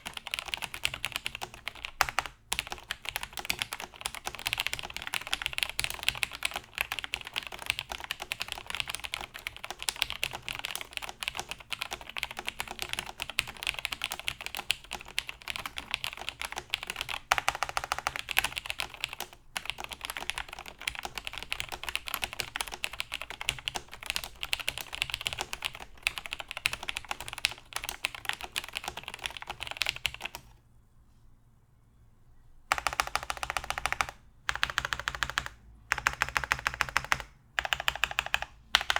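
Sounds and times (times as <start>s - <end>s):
fast typing on a keyboard: 0.0s - 30.5s, 32.7s - 38.9s.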